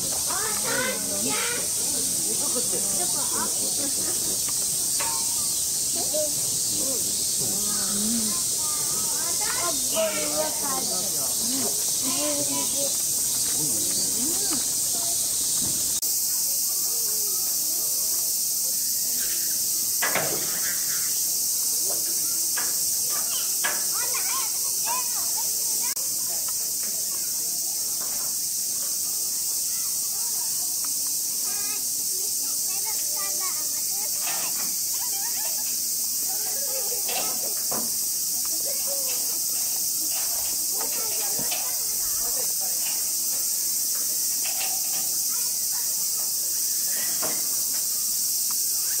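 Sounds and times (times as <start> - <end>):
cicadas chorus: 0.0 - 49.0
faint talk: 0.0 - 49.0
faint voices: 0.0 - 49.0.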